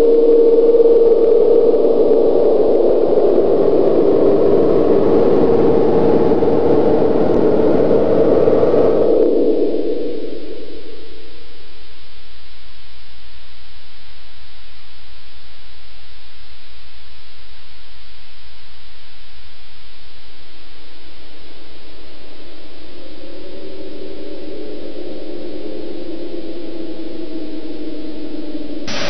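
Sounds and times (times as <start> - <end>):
distorted droning hum: 0.0 - 29.0
loud static hiss: 0.0 - 29.0.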